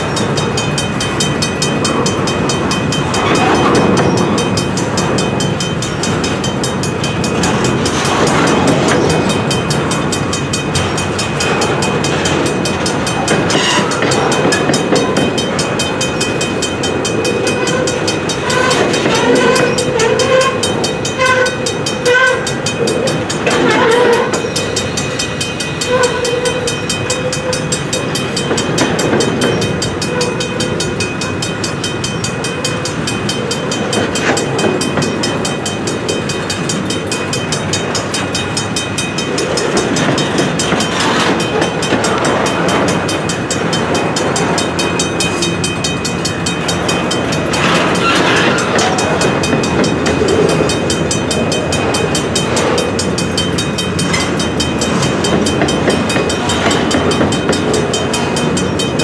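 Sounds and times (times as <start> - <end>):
train rumbling past on rails: 0.0 - 59.0.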